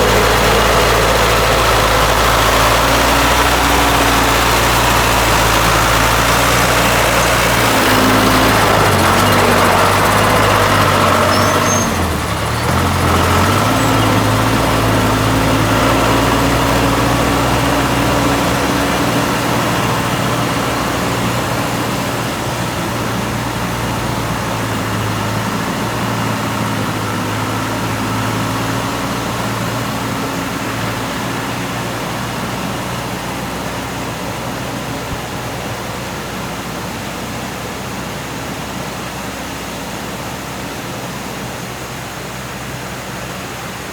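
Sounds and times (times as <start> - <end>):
threshing machine engine running: 0.0 - 36.1.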